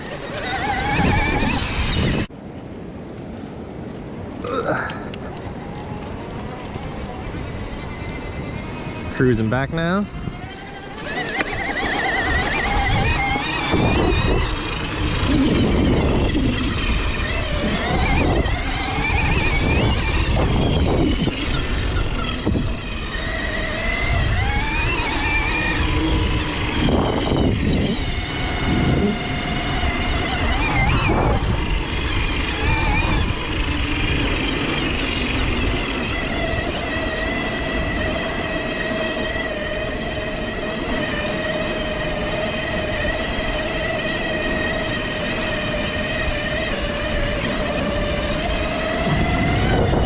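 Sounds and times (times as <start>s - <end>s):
electric bike motor whining: 0.0s - 2.3s, 3.3s - 50.0s.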